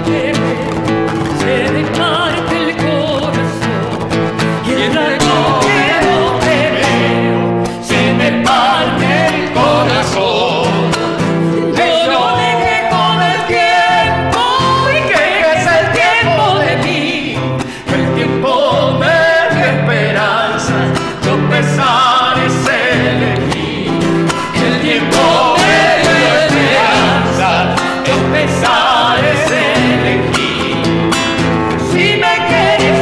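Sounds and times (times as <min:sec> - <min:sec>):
men singing: 0:00.0 - 0:33.0
strummed acoustic guitar: 0:00.0 - 0:33.0
woman singing folk song: 0:00.0 - 0:33.0.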